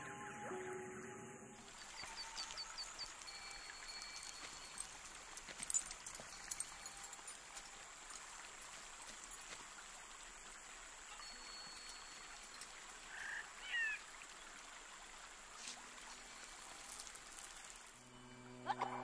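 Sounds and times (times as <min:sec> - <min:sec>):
steady hiss: 0:01.6 - 0:18.2.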